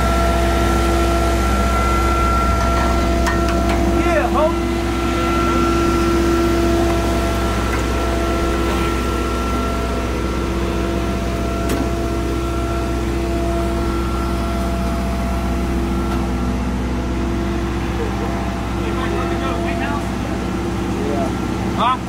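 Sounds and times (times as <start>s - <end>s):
motor hum with whine: 0.0s - 22.0s.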